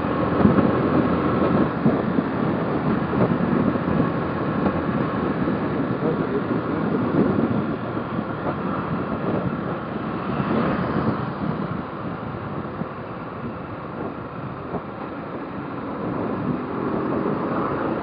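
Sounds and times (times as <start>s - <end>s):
road noise: 0.0s - 18.0s
wind rushing over microphone: 0.0s - 18.0s.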